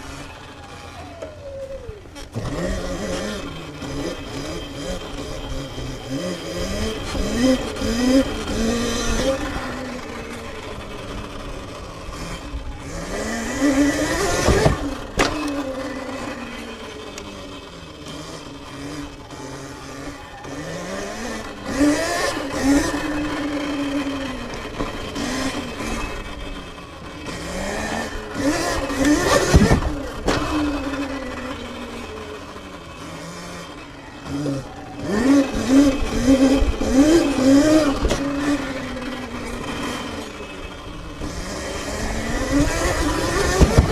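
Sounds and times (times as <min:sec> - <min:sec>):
electric dirt bike motor whining: 0:00.0 - 0:43.9.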